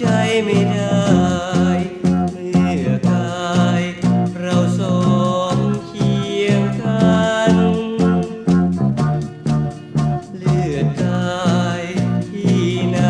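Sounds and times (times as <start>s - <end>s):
pop band music from vinyl: 0.0s - 13.0s.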